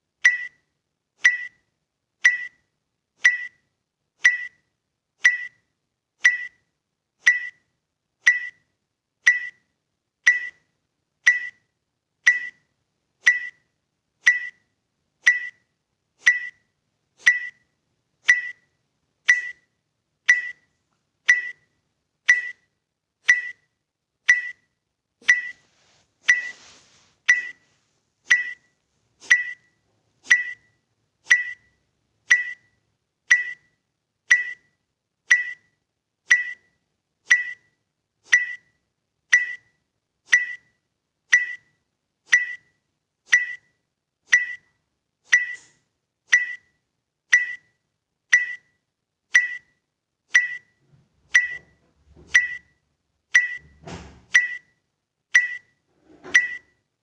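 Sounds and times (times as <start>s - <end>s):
timer beeps: 0.2s - 9.7s, 10.3s - 10.7s, 11.3s - 11.7s, 12.3s - 23.7s, 24.3s - 25.6s, 26.3s - 26.6s, 27.3s - 27.6s, 28.3s - 56.8s.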